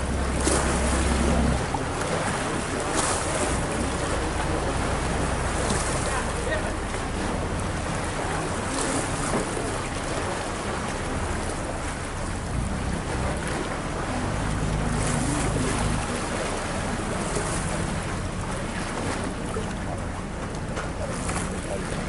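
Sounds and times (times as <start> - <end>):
boat engine humming: 0.0 - 22.0
water splashing along hull: 0.0 - 22.0.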